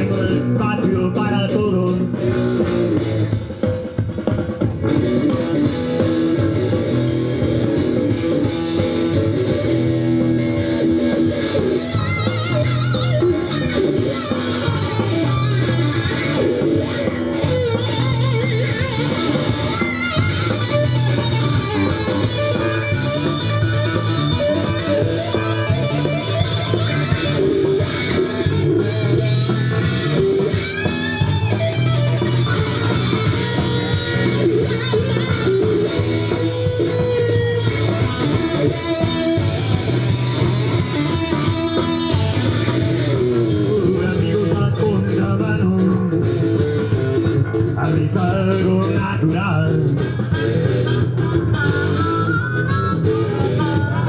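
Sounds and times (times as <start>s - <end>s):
bass guitar: 0.0s - 54.0s
blues band playing: 0.0s - 54.0s
electric guitar: 0.0s - 54.0s.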